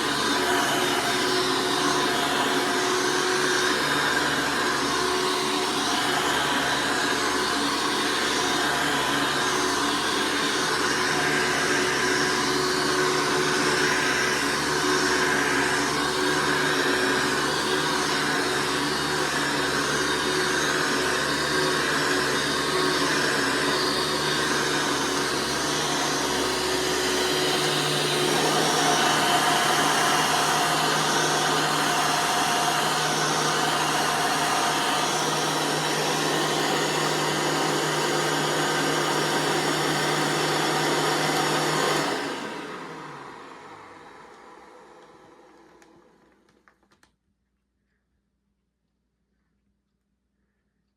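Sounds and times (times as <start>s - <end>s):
vacuum cleaner motor hum: 0.0s - 46.8s.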